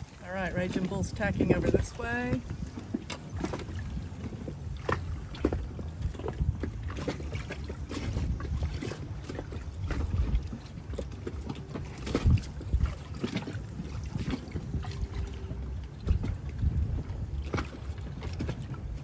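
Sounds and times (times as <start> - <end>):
choppy water splashing: 0.0 - 19.0
wind buffeting microphone: 0.0 - 19.0.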